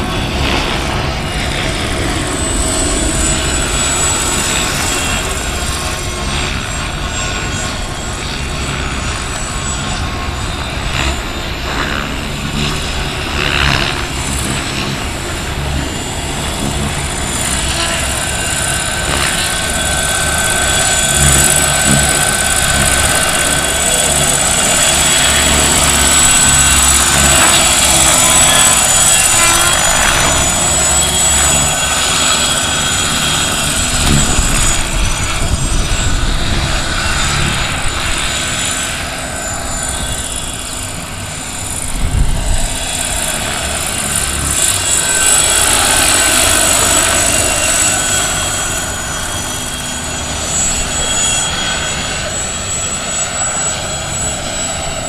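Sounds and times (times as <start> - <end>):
rc helicopter turbine whine: 0.0 - 55.0
rotor blades chopping: 10.9 - 55.0.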